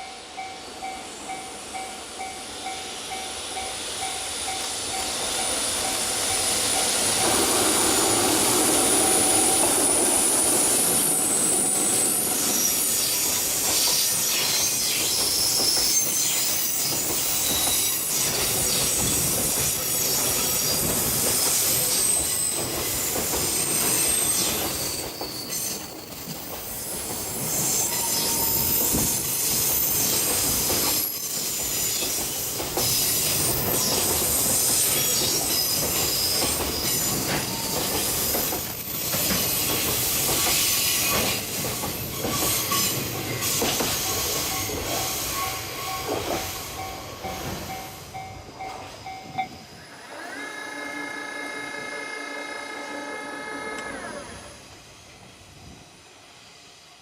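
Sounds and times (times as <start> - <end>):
train wheels squealing on rails: 0.0 - 57.0.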